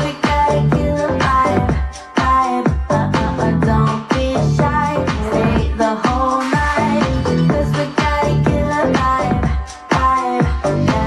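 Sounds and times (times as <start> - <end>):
dance-pop music: 0.0 - 11.0
steady kick drum: 0.0 - 11.0.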